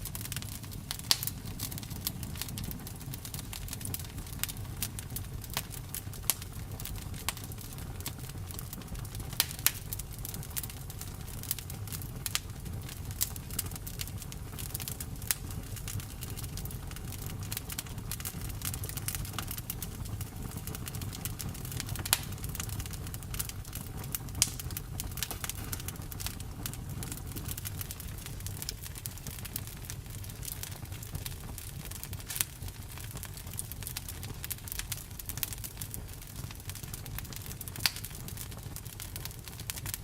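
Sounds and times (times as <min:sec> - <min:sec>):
campfire wood crackling and popping: 0:00.0 - 0:40.0.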